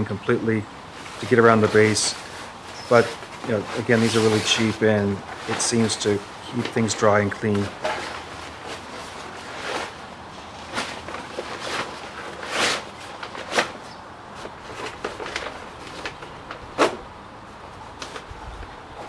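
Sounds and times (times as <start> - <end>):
fabric cover rustling: 0.9 - 7.0, 7.6 - 17.0.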